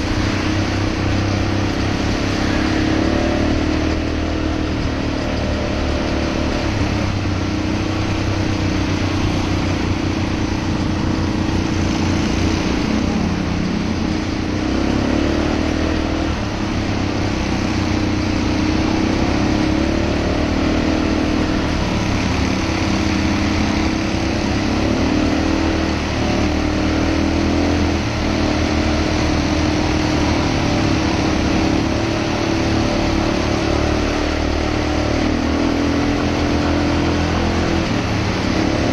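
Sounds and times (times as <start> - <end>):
quad bike engine running: 0.0 - 38.9
road and wind noise: 0.0 - 38.9.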